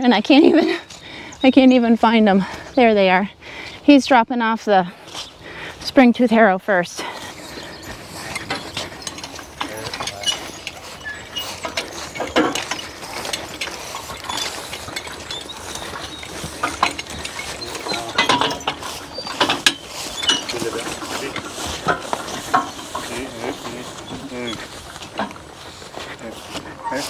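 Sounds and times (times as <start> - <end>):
harness and harrow clanking: 0.0 - 27.0.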